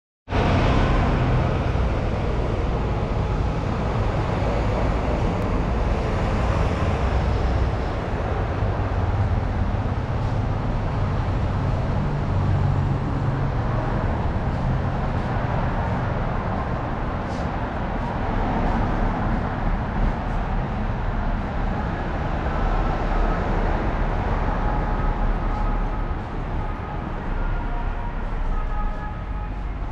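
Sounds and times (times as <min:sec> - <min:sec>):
cars and scooters passing: 0:00.3 - 0:29.9.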